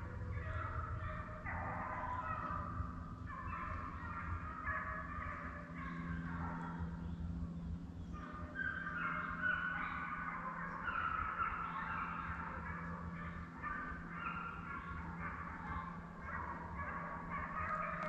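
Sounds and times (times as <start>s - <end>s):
hounds baying: 0.0s - 7.0s, 8.1s - 18.0s.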